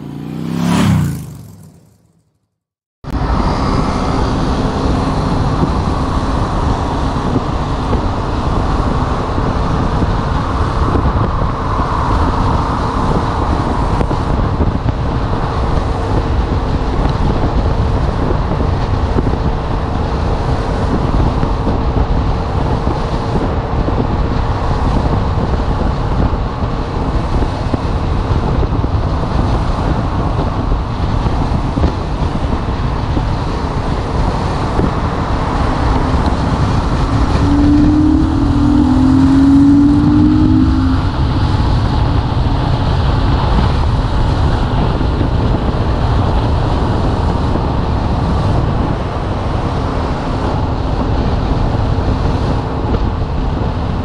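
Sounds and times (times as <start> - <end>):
motorcycle engine running: 0.0 - 2.3, 3.1 - 54.0
motorcycle road noise: 0.0 - 54.0
wind on microphone: 3.0 - 54.0.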